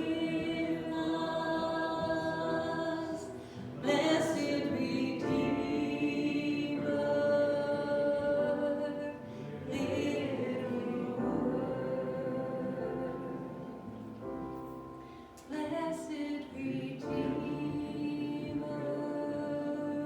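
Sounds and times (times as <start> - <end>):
group singing a hymn: 0.0 - 14.8, 15.4 - 20.0.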